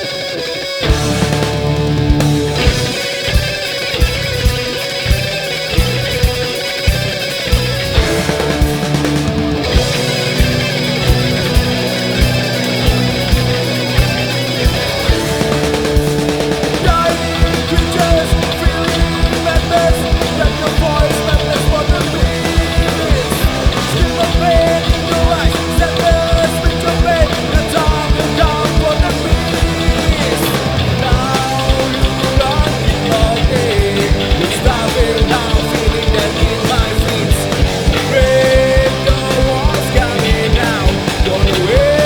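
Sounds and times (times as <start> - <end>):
loud rock music: 0.0 - 42.0.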